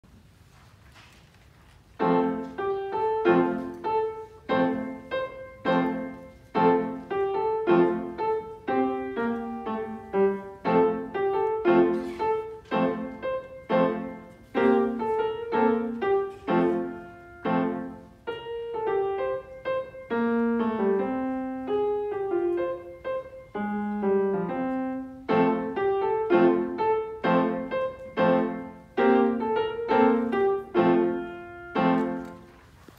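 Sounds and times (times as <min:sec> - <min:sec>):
solo grand piano chords: 0:02.0 - 0:32.9.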